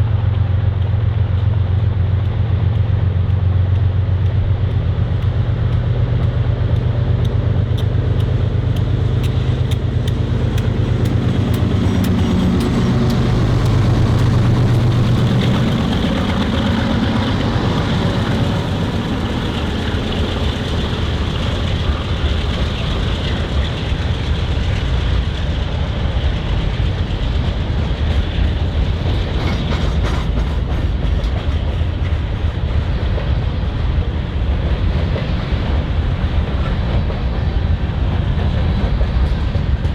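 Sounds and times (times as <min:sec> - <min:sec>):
freight cars rumbling: 0:00.0 - 0:39.9
locomotive engines droning: 0:00.0 - 0:39.9
wheels clacking over rail joints: 0:00.0 - 0:39.9.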